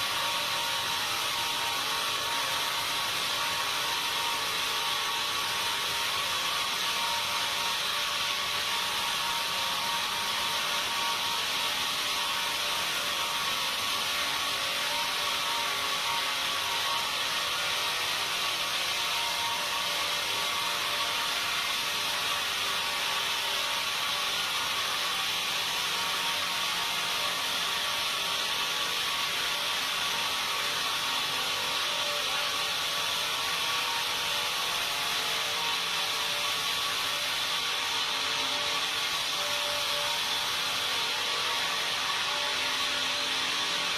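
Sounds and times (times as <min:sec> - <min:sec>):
saw cutting timber: 0:00.0 - 0:43.9.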